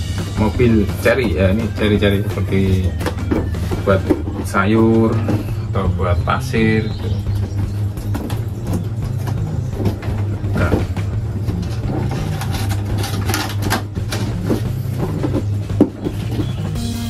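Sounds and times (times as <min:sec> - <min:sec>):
steady low hum: 0:00.0 - 0:17.0
cardboard rustling: 0:00.3 - 0:16.8.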